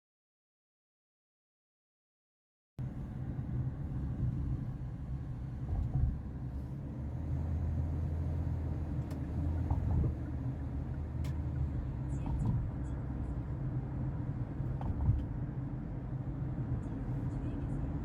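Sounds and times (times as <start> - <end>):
vehicle interior rumble: 2.8 - 18.0.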